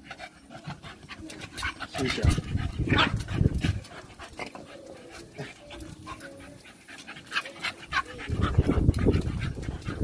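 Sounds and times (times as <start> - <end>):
dogs panting: 0.0 - 10.0
dogs play-growling: 0.0 - 10.0.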